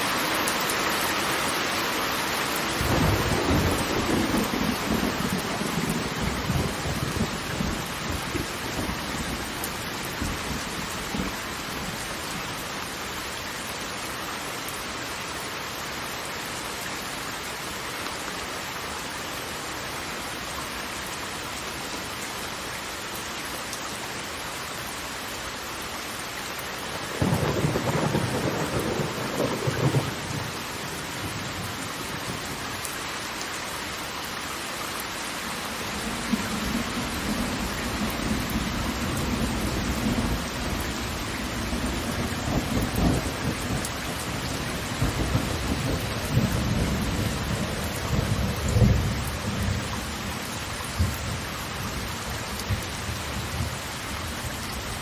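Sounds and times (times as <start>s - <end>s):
rushing water hiss: 0.0s - 55.0s.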